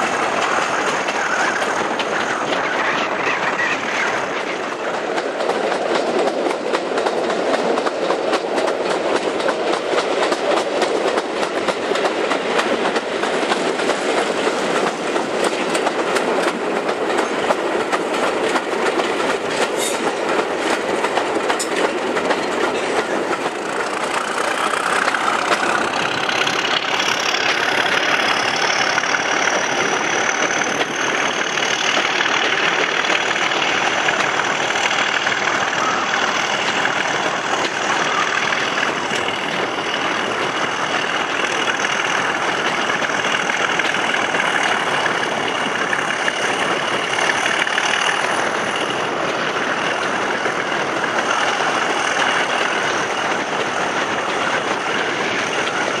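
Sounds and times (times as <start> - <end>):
diesel locomotive engine: 0.0 - 56.0
train wheels rumbling on rails: 0.0 - 56.0
wheels clicking over rail joints: 0.0 - 56.0.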